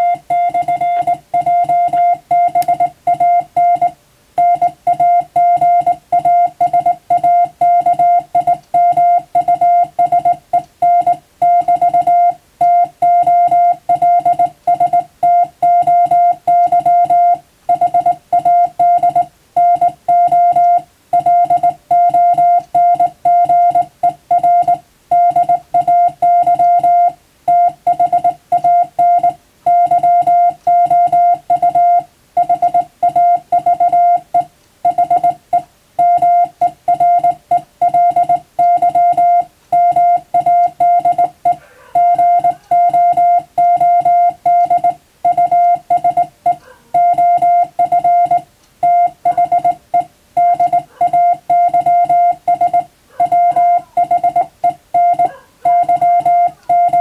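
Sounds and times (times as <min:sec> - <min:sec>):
morse code beeps: 0:00.0 - 0:57.0.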